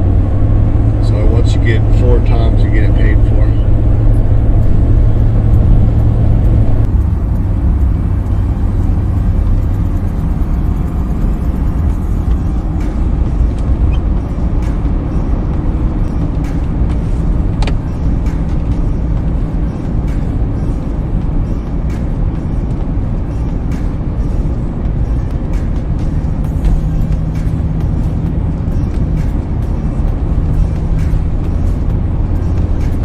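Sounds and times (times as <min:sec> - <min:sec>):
truck engine and road rumble: 0:00.0 - 0:33.0.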